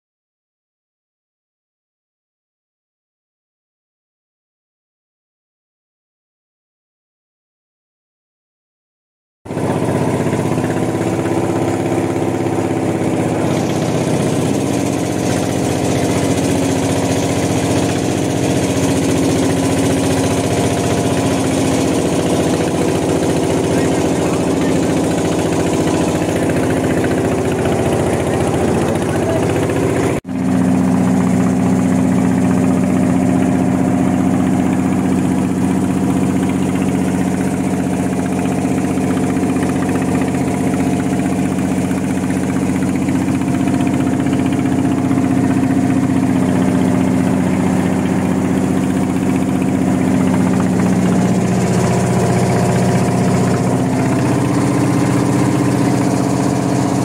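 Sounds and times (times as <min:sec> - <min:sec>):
boat engine droning: 0:09.5 - 0:57.0.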